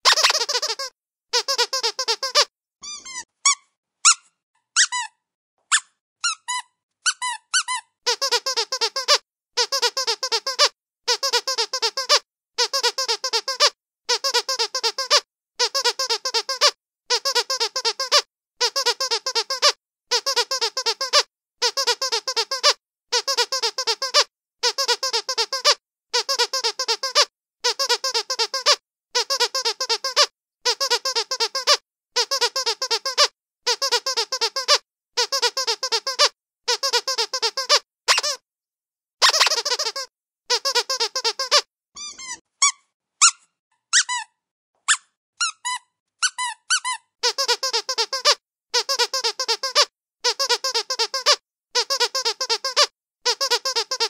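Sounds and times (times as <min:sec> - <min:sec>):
squeaky dog toy squeaking: 0:00.0 - 0:38.4, 0:39.2 - 0:54.0.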